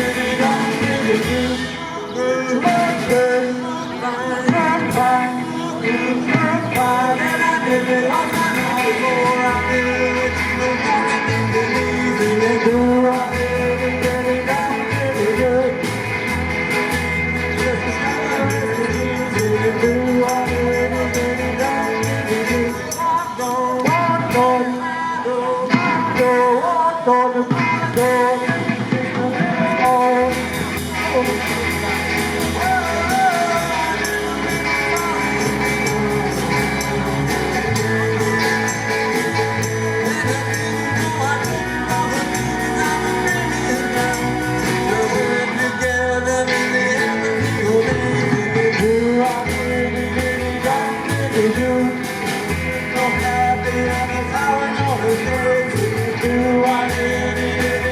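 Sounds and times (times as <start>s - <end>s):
person singing: 0.0s - 57.9s
rock and roll band playing: 0.0s - 57.9s.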